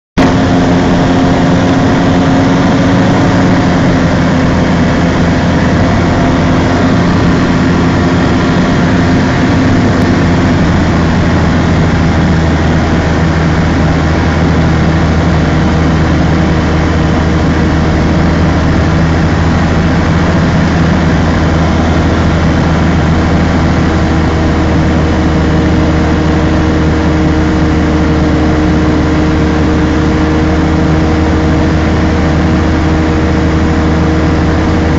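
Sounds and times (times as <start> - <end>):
aircraft engine drone: 0.2 - 34.9
rushing air noise: 0.2 - 34.9.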